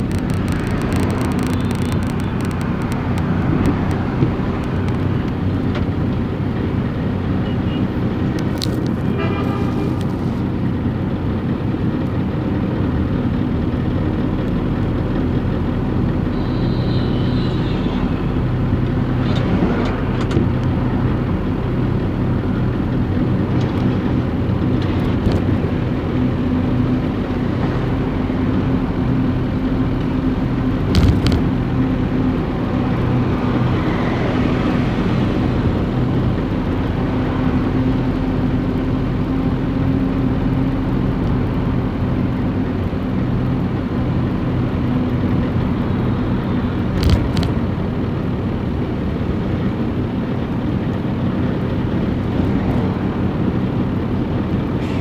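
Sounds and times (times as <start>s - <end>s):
car engine hum: 0.0s - 55.0s
tyre road noise: 0.0s - 55.0s.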